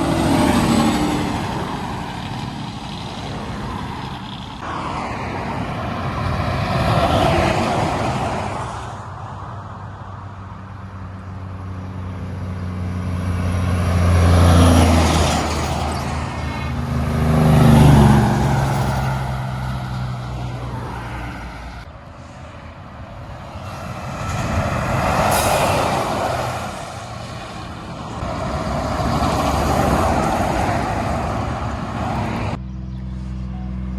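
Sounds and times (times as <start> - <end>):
heavy trucks driving past: 0.0 - 33.9.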